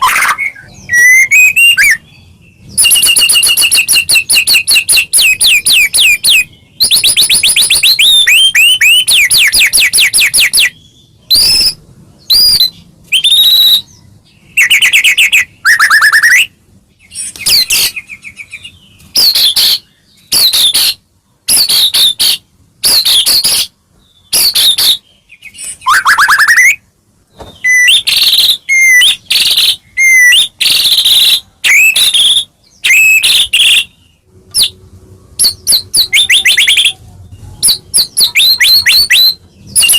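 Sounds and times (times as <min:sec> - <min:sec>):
bird singing trills and whistles: 0:00.0 - 0:26.8, 0:27.4 - 0:34.8, 0:35.4 - 0:39.9.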